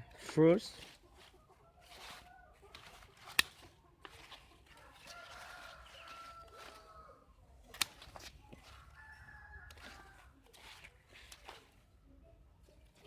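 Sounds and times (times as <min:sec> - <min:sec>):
chickens clucking: 0:00.0 - 0:13.0
rooster crowing faintly: 0:01.1 - 0:11.6.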